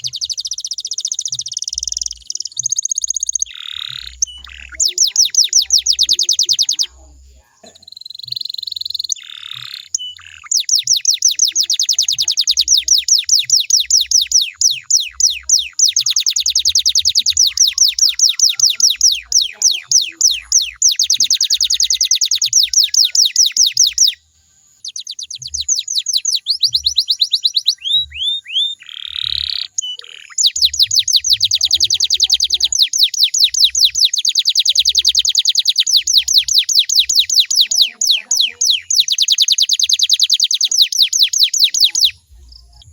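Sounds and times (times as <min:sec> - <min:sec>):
canary trilling: 0:00.0 - 0:42.9.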